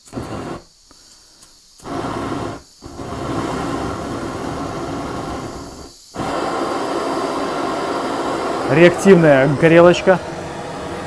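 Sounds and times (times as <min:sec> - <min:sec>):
gas torch flame rushing: 0:00.0 - 0:11.0.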